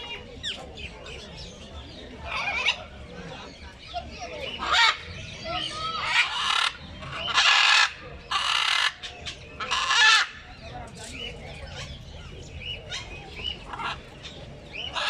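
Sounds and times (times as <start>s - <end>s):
quiet bird chatter: 0.0s - 15.0s.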